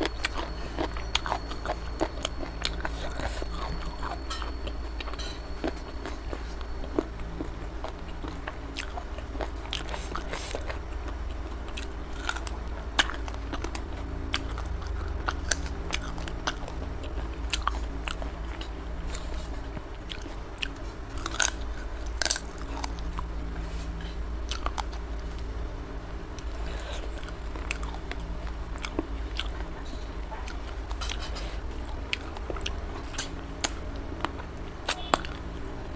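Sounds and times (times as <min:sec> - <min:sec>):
person chewing food: 0:00.0 - 0:25.6, 0:26.3 - 0:35.9
low steady hum: 0:00.0 - 0:35.9.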